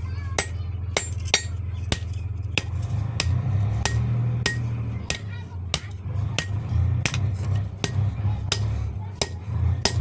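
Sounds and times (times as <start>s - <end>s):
hammer striking metal on anvil: 0.3s - 10.0s.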